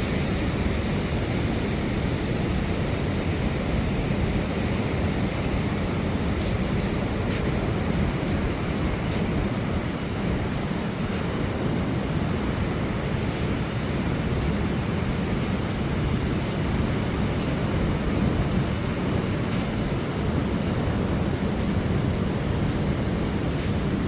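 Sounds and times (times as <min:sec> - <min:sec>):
ocean surf: 0:00.0 - 0:24.0
wind: 0:00.0 - 0:24.0.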